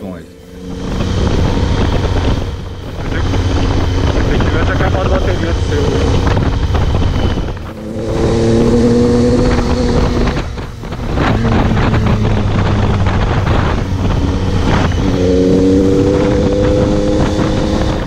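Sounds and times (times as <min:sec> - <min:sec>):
motorcycle engine running: 0:00.0 - 0:18.0
wind noise on microphone: 0:00.4 - 0:18.0.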